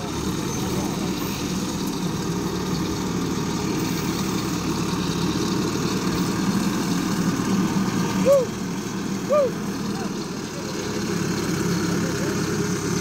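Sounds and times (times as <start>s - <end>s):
motor grader diesel engine drone: 0.0s - 13.0s.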